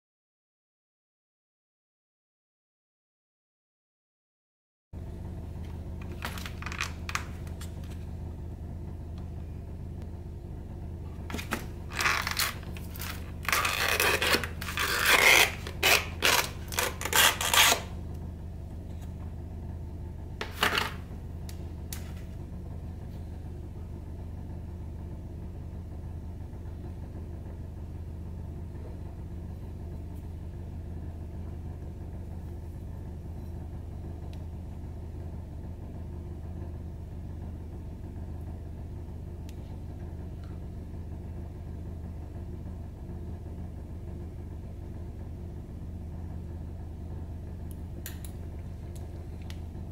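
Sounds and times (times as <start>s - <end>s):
low hum: 5.0s - 49.9s.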